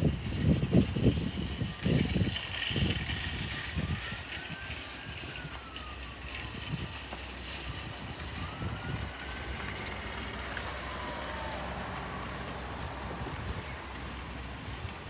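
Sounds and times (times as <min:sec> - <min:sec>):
distant airliner rumble: 0:00.0 - 0:15.0.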